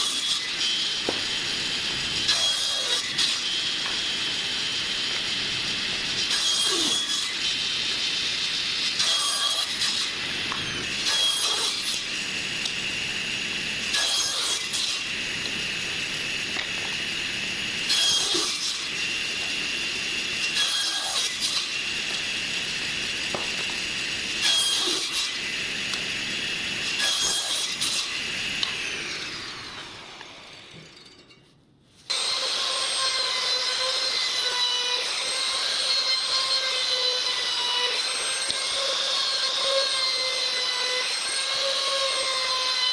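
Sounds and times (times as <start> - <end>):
power tool whining on wood: 0.0 - 30.8, 32.1 - 42.9.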